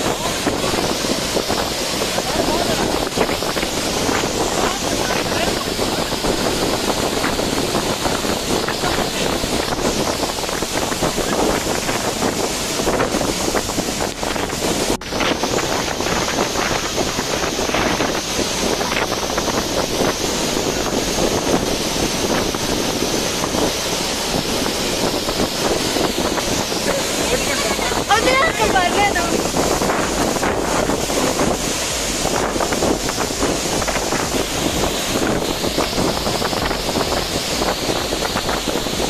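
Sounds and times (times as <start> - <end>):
waterfall rushing: 0.0 - 39.0
wind buffeting microphone: 0.0 - 39.0.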